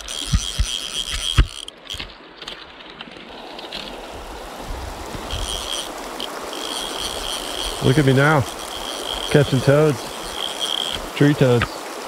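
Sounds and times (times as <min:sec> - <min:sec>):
high insect buzz: 0:00.0 - 0:02.1, 0:03.6 - 0:12.0
stream water running over rocks: 0:00.0 - 0:12.0.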